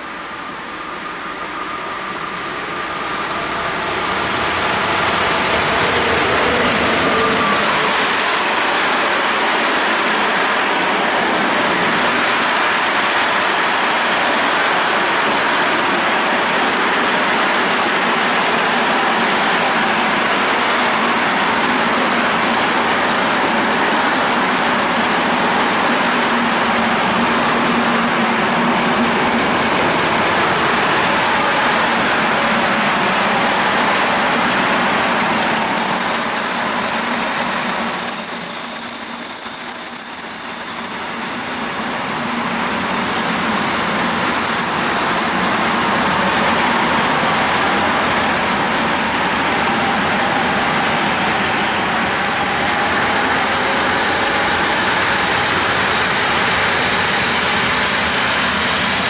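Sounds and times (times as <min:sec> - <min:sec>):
train wheels rushing on track: 0:00.0 - 0:59.0
high wheel squeal: 0:03.3 - 0:14.5, 0:20.5 - 0:59.0.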